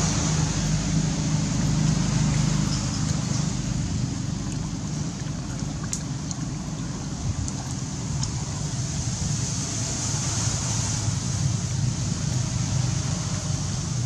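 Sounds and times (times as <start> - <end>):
constant hiss: 0.0 - 14.0
low engine-like hum: 0.0 - 14.0.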